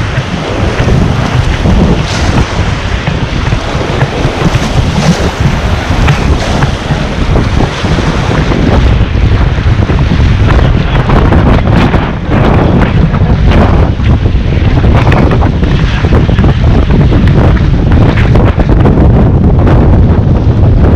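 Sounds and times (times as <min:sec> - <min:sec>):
water splashing against raft: 0:00.0 - 0:18.8
rushing whitewater: 0:00.0 - 0:18.9
wind buffeting microphone: 0:00.0 - 0:20.9.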